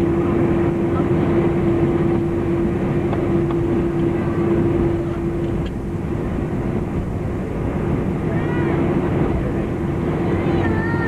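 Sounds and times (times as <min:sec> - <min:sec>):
aircraft cabin rumble: 0:00.0 - 0:11.0
constant hum: 0:00.0 - 0:11.0.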